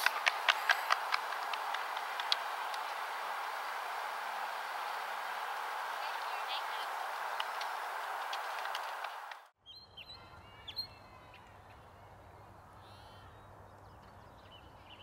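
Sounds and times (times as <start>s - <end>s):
birds chirping: 0.0s - 15.0s
noisy outdoor background: 0.0s - 15.0s.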